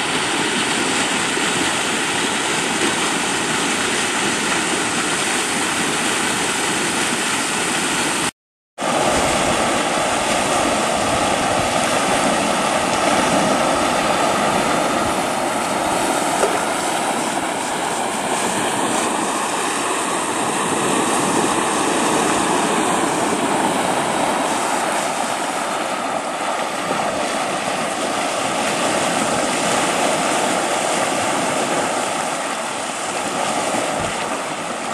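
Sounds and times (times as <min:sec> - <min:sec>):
flood water rushing: 0:00.0 - 0:34.9.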